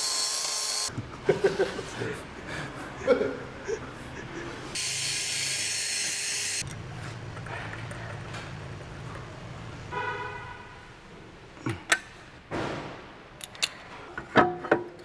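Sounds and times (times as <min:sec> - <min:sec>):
low steady workshop hum: 0:00.0 - 0:15.0.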